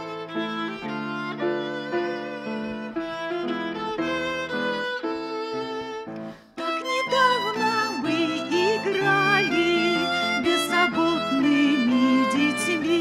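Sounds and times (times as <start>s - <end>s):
solo violin melody: 0.0s - 13.0s.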